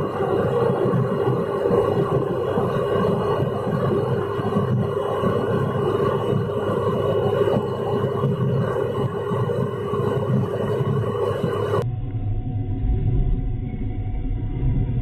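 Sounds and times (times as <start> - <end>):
road and wind rumble: 0.0 - 12.1
car engine drone: 0.0 - 15.0.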